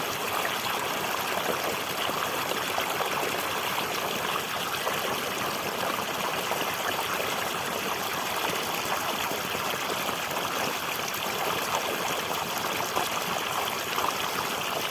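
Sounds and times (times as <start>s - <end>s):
flowing water: 0.0s - 14.9s.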